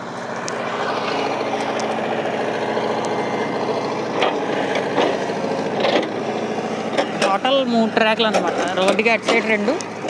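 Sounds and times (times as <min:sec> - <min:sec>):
small vehicle engine running: 0:00.0 - 0:10.0.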